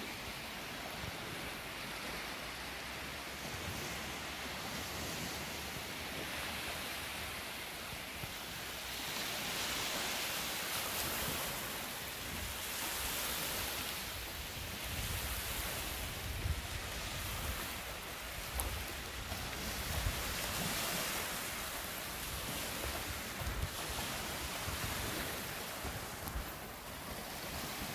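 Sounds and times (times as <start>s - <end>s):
waves washing onto gravel beach: 0.0s - 27.9s.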